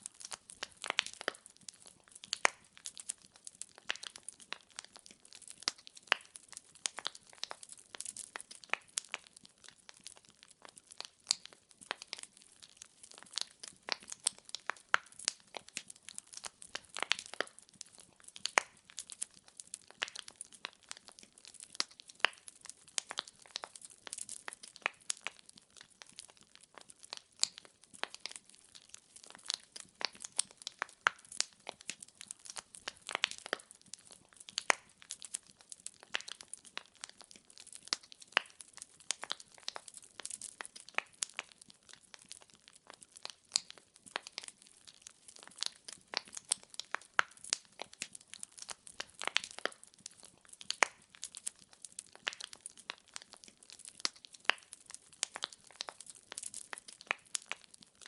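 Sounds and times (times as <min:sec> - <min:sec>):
firewood popping and snapping: 0:00.0 - 0:57.8.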